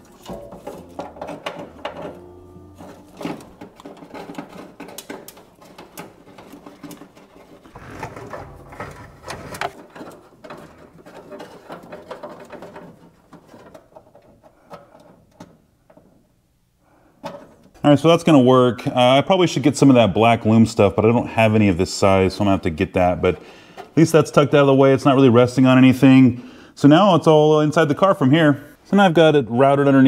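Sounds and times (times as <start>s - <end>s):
wire handling clicks and rustles: 0.0s - 16.5s, 17.2s - 25.8s.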